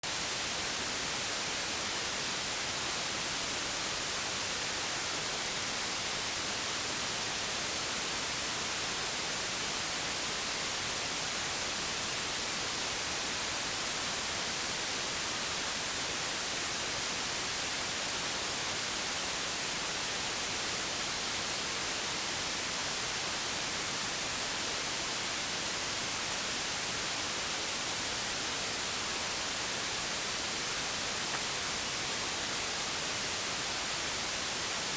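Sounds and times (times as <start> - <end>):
static hiss: 0.0 - 34.9.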